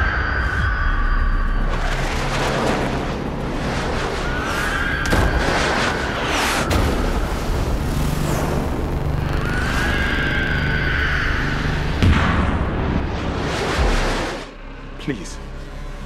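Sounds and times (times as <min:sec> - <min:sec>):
rumbling explosions and booms: 0:00.0 - 0:14.6
film music: 0:00.0 - 0:16.0.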